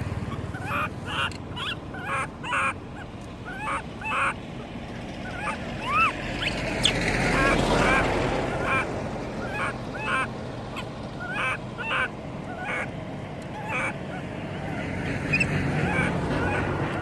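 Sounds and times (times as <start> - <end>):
infant monkey crying: 0.0 - 17.0.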